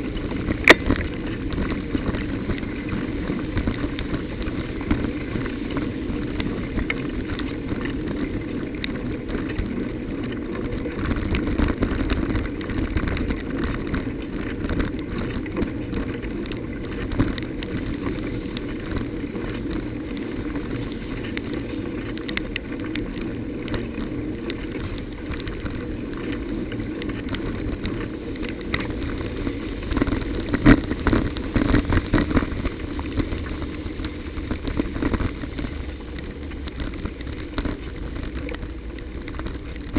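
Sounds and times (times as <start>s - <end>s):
bicycle tyres and wind rumble: 0.0s - 39.9s
bike rattling and knocking: 0.0s - 39.9s.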